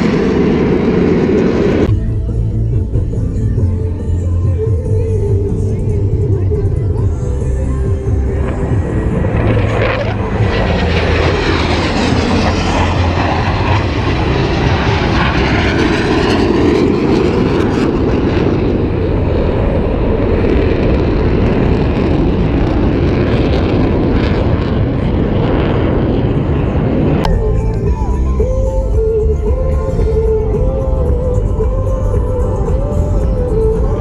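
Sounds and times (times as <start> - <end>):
military jets flying over: 0.0 - 3.6, 5.3 - 34.0.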